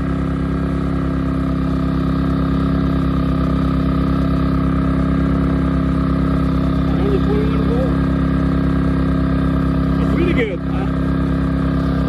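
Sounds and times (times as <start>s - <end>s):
generator engine running steadily: 0.0s - 12.0s.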